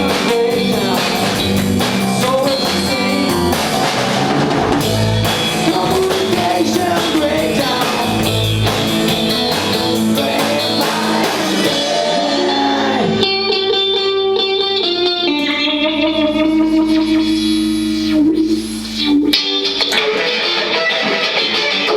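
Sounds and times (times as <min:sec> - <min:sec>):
drum kit: 0:00.0 - 0:21.9
electric guitar: 0:00.0 - 0:21.9.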